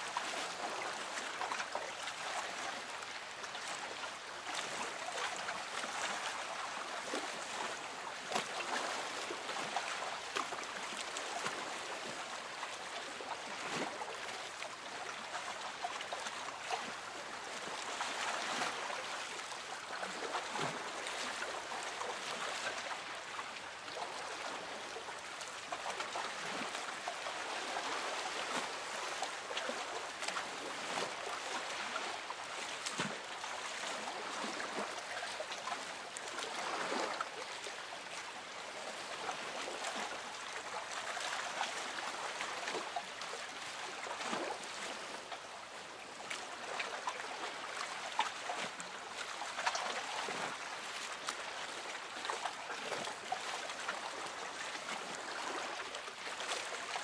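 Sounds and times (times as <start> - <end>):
ocean water lapping and splashing: 0.0 - 57.0.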